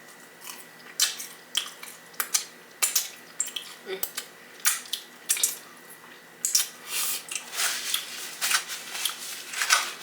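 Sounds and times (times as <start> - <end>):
wet chewing and mouth sounds: 0.0 - 8.1.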